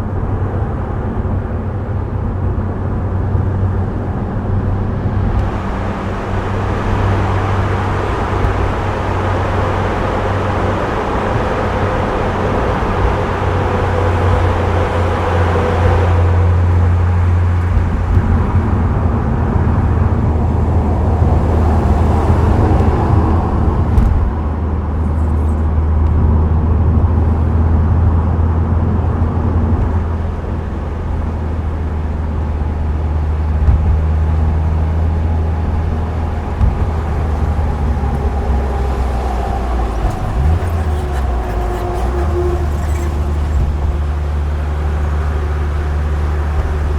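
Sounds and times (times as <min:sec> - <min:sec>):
car engine and exhaust drone: 0:00.0 - 0:46.9
tyre and road noise: 0:00.0 - 0:46.9.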